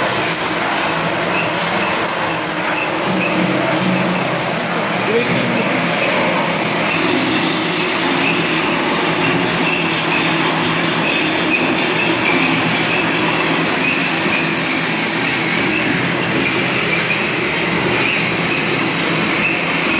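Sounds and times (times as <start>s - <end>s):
machinery mechanical din: 0.0s - 19.9s
high-pitched machine squeaks: 2.6s - 4.3s, 5.1s - 19.8s.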